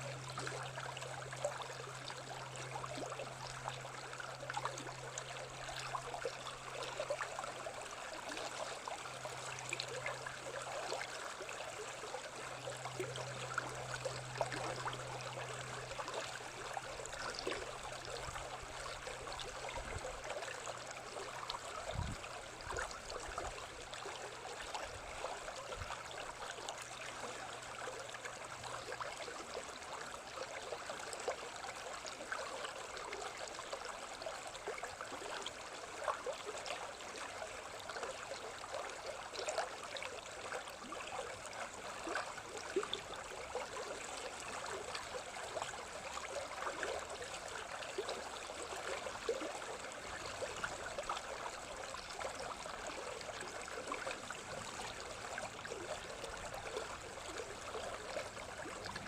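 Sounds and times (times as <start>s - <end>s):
small stream babbling: 0.0s - 59.0s.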